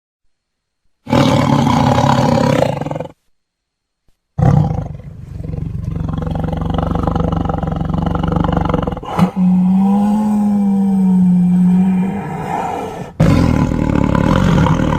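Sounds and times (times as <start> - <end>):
big cat roaring: 1.1 - 3.2, 4.4 - 14.9.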